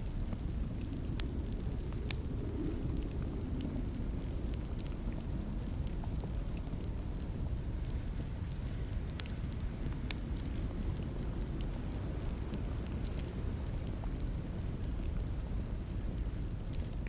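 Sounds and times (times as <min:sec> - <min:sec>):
fire burning rumble: 0:00.0 - 0:17.0
fire popping and snapping: 0:00.0 - 0:17.0.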